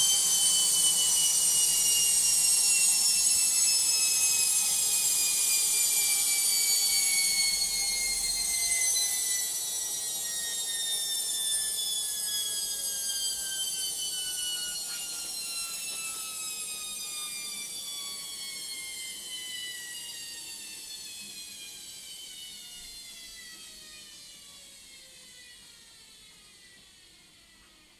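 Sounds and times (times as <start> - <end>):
washing machine spin whine: 0.0 - 27.9.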